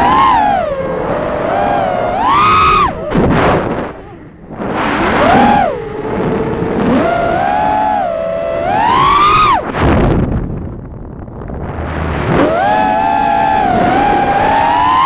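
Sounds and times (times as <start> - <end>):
quadcopter propellers whining: 0.0 - 9.7, 12.1 - 15.0.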